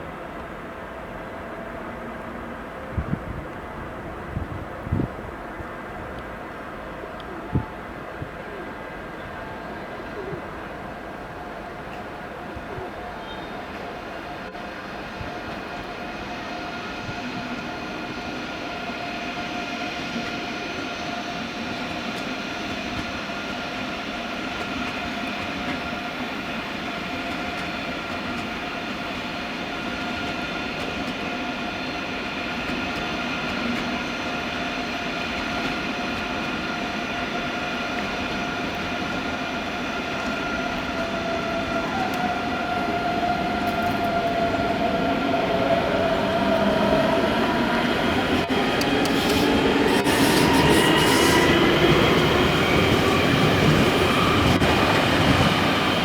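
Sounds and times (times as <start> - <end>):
train on tracks: 0.0 - 56.0.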